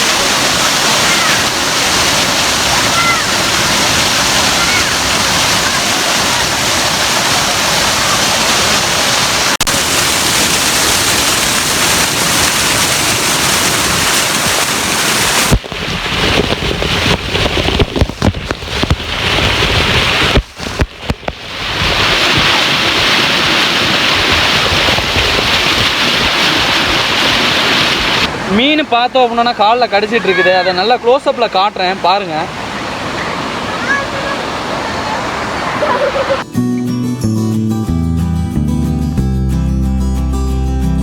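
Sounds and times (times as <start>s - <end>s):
waterfall rushing: 0.0s - 36.4s.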